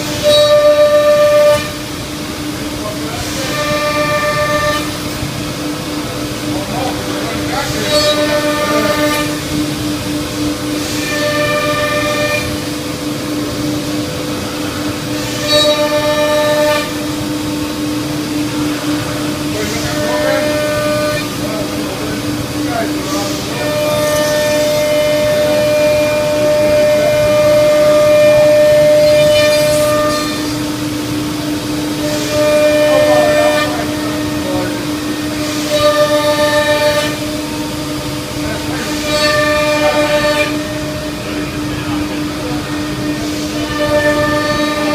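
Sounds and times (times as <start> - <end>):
cnc router spindle whine: 0.0 - 44.9.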